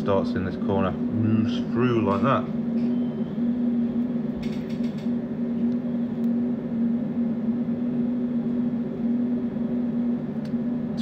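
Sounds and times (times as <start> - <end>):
machine mechanical hum: 0.0 - 11.0.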